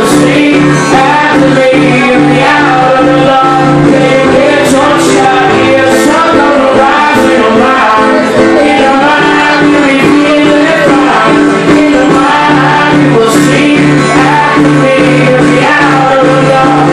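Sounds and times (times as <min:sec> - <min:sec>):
man singing: 0:00.0 - 0:16.9
strummed acoustic guitar: 0:00.0 - 0:16.9.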